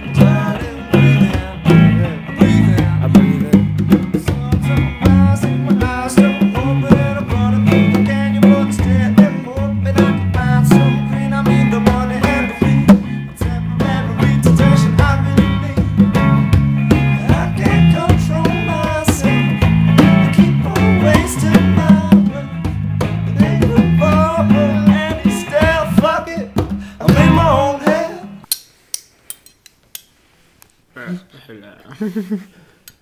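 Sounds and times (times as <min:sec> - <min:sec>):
rock band playing live: 0:00.0 - 0:28.5.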